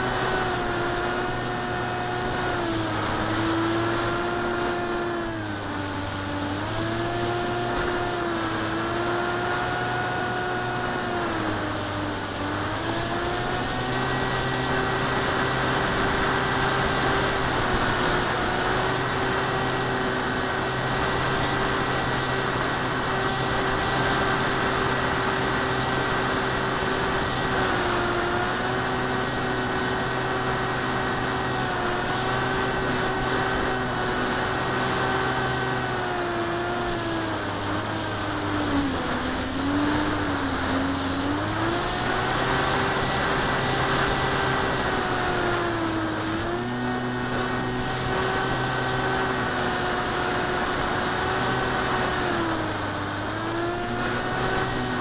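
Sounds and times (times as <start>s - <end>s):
model plane electric motor whine: 0.0s - 55.0s.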